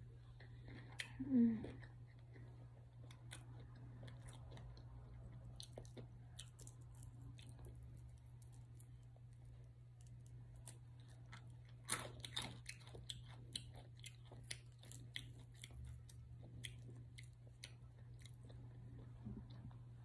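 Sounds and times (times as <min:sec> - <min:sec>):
chewing fried chicken: 0:00.0 - 0:20.0
faint low hum: 0:00.0 - 0:20.0.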